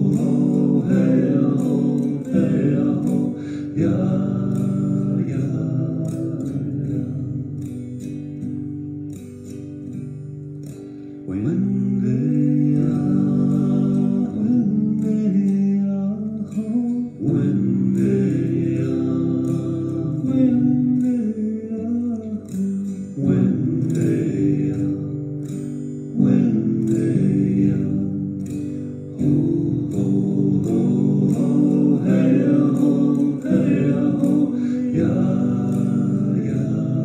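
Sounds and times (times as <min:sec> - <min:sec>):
man singing: 0:00.0 - 0:08.5, 0:11.2 - 0:37.0
acoustic guitar: 0:00.0 - 0:37.0.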